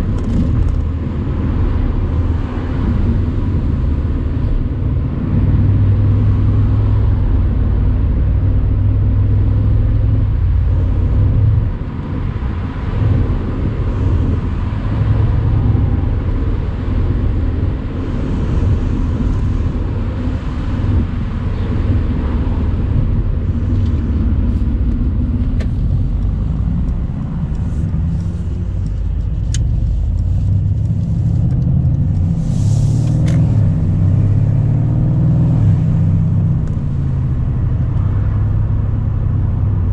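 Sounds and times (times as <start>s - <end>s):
car engine droning while driving: 0.0s - 39.9s.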